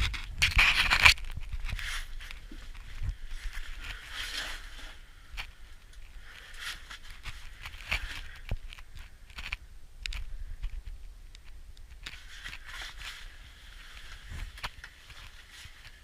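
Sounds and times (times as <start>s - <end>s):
scraping and crunching footsteps: 0.0s - 11.1s, 11.8s - 16.0s.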